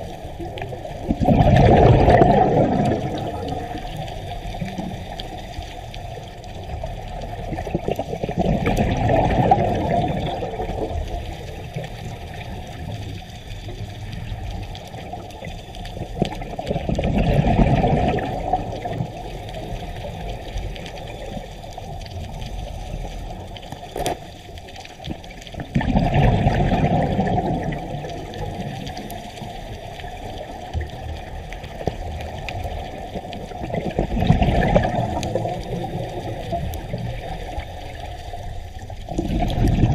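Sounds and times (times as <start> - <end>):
exhaled bubbles underwater: 0.0 - 39.9
low rush of water: 0.0 - 39.9.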